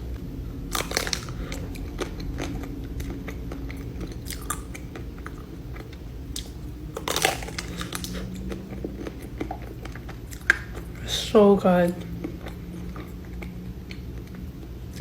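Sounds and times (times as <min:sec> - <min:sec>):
person chewing crunchy food: 0:00.5 - 0:11.3, 0:12.0 - 0:15.0.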